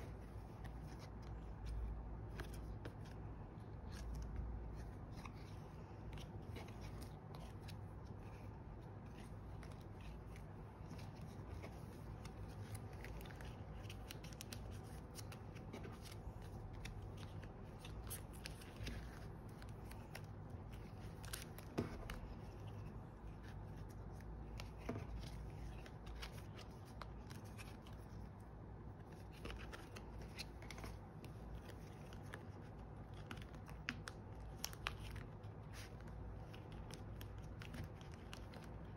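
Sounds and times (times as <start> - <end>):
low background noise: 0.0 - 38.9
plastic pages crinkling: 0.0 - 38.9.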